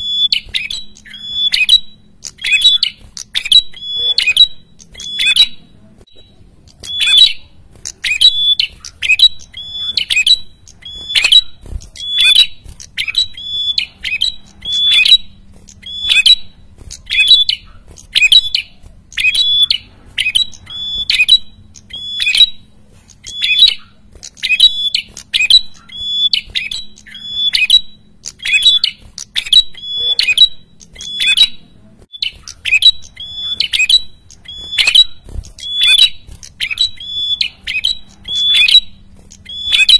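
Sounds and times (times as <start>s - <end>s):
bird harsh chattering calls: 0.0s - 39.9s.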